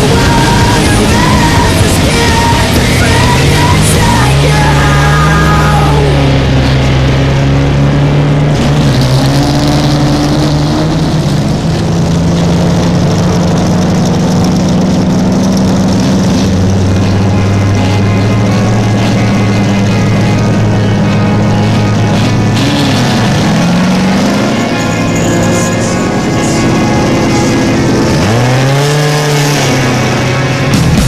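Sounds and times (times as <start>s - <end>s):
race vehicle engine revving: 0.0s - 31.0s.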